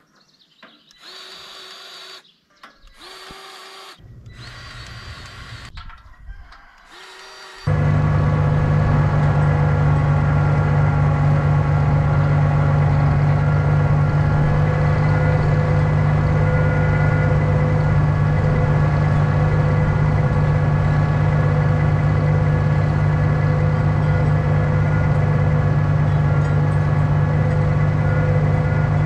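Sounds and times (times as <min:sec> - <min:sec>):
tractor engine idling: 0:03.9 - 0:05.9, 0:07.7 - 0:29.0.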